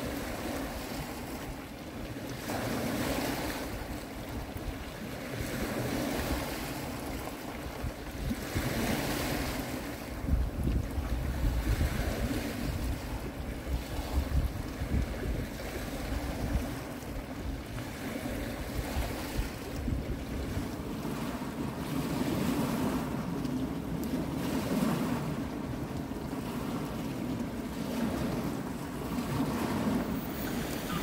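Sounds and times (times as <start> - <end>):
waves on pebble shore: 0.0 - 31.0
wind buffeting microphone: 0.0 - 31.0.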